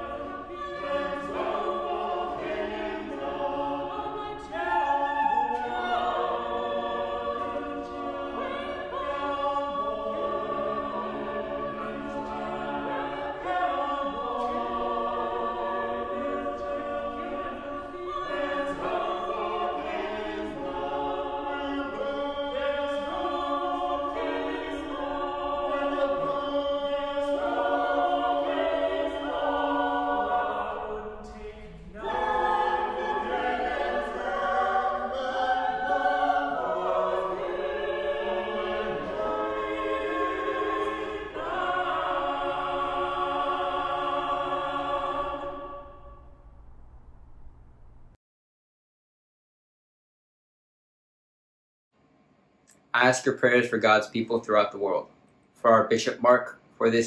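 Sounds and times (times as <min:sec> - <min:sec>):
choir singing in parts: 0:00.0 - 0:46.6.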